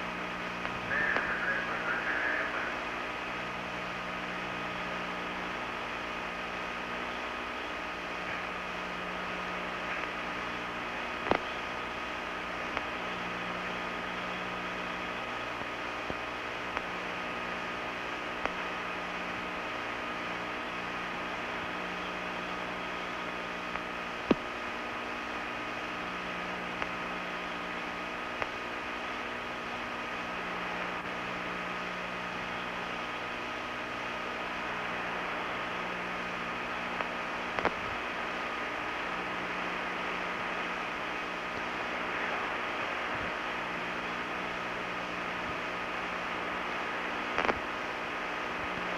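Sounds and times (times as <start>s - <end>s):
low hum: 0.0s - 48.9s
ventilation fans hissing: 0.0s - 48.9s.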